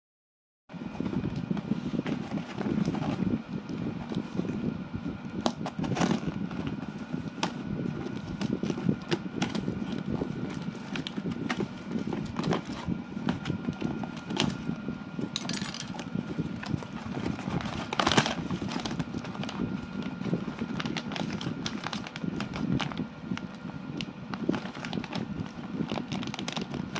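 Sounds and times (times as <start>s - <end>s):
plastic and cardboard rustling: 0.8s - 26.9s.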